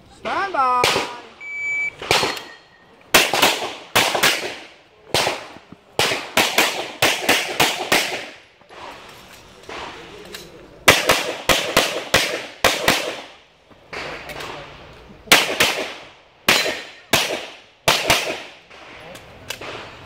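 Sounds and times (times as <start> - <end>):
pistol shots: 0.8 - 1.3, 1.9 - 10.1, 10.8 - 14.7, 15.3 - 20.0.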